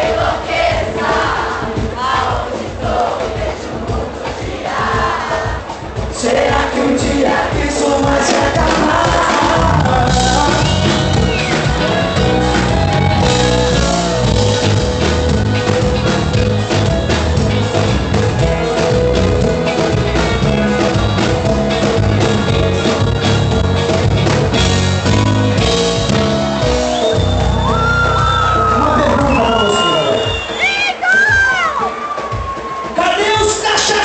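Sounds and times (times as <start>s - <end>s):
live band playing: 0.0s - 34.0s
steady drum beat: 0.0s - 34.0s.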